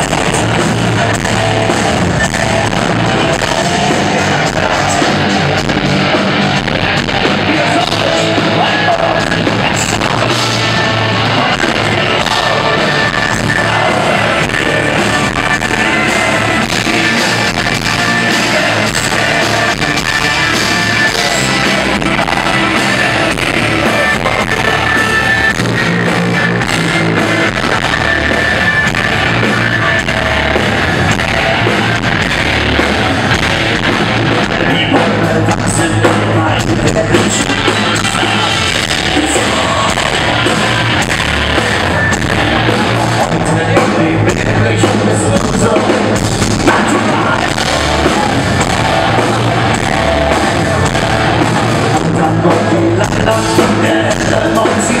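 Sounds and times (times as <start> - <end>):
folk-metal band playing live: 0.0 - 55.0
man singing: 0.0 - 55.0.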